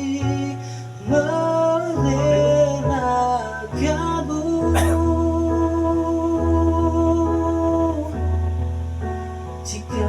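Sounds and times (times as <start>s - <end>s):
person singing pop ballad: 0.0s - 10.0s.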